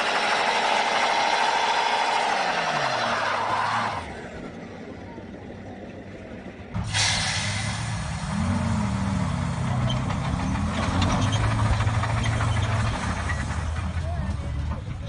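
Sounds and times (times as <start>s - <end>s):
large vehicle engine running: 0.0s - 15.0s.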